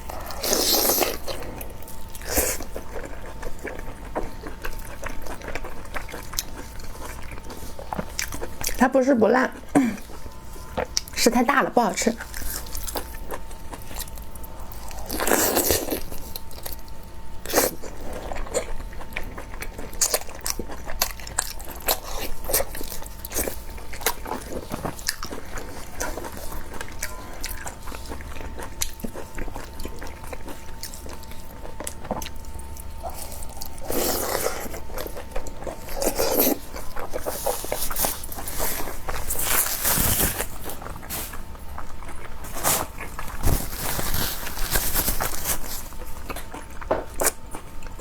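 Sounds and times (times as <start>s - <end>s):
person chewing and biting: 0.0s - 8.8s, 12.2s - 48.0s
faint high tone hum: 0.0s - 48.0s.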